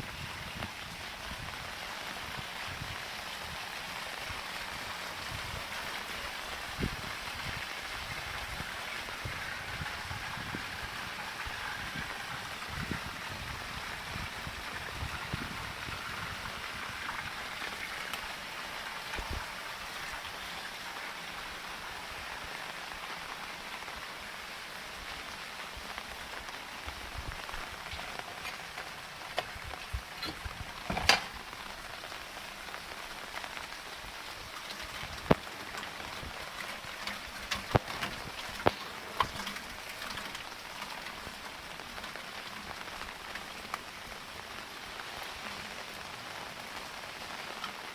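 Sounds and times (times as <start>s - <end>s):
rain pattering on surfaces: 0.0s - 47.9s.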